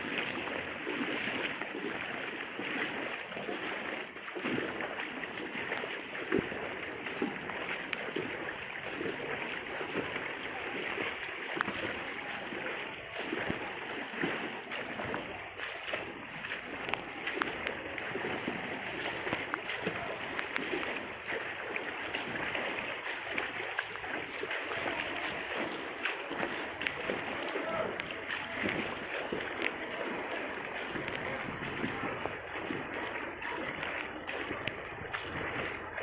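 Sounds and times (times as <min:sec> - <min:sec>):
rushing floodwater: 0:00.0 - 0:36.0
small knocks and splashes: 0:00.0 - 0:36.0.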